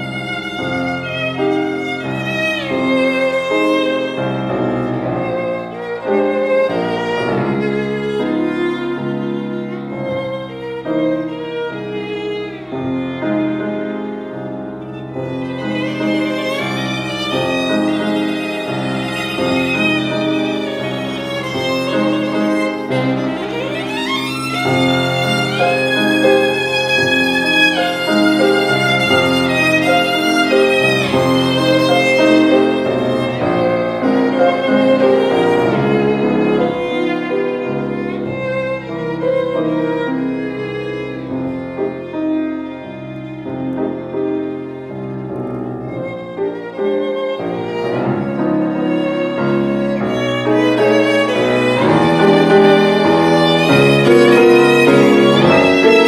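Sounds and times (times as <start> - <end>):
piano chords: 0.0 - 56.0
violin melody with vibrato: 0.0 - 56.0.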